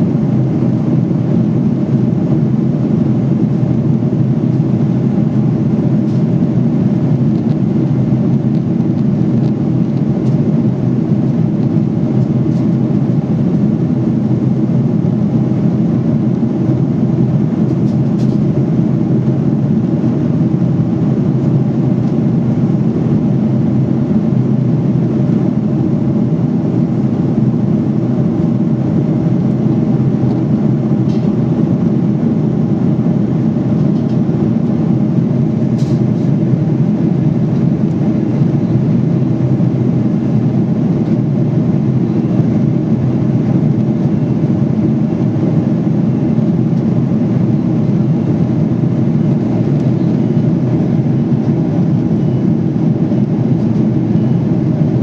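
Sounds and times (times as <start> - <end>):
airliner cabin noise: 0.0 - 55.0.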